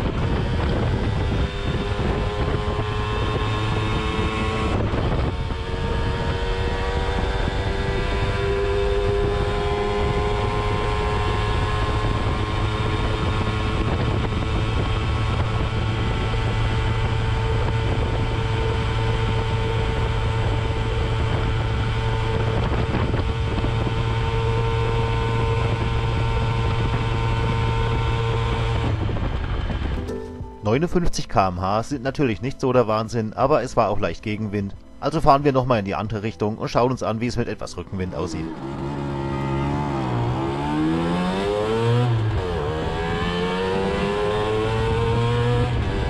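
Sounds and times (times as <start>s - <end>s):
wind on microphone: 0.0s - 30.1s, 38.4s - 46.0s
moped engine high drone: 0.0s - 31.1s, 37.9s - 46.0s.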